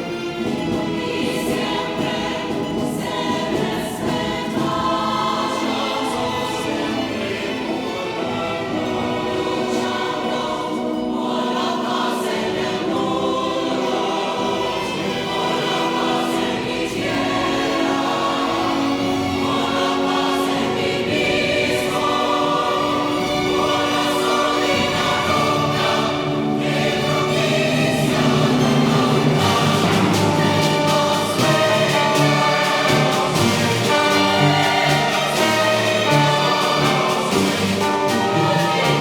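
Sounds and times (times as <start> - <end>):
choir singing held chords: 0.0 - 39.0
orchestra accompanying: 0.0 - 39.0.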